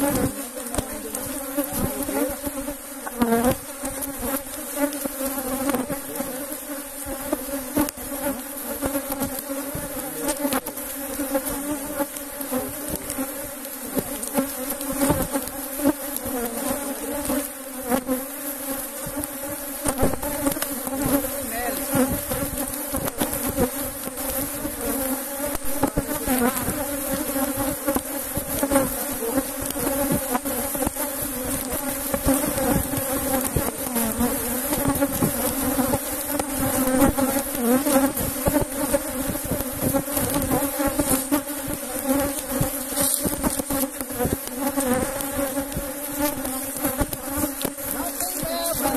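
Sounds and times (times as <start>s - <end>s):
hive frames knocking: 0.0s - 17.4s, 18.9s - 48.9s
bees buzzing: 0.0s - 48.9s.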